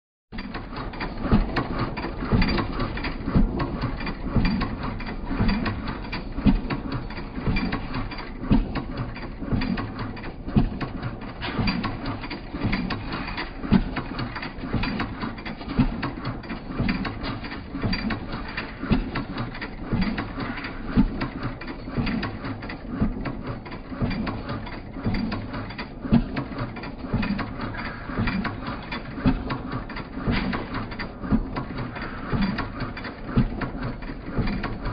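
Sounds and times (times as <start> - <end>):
mechanical clicking and rattling: 0.4 - 34.9.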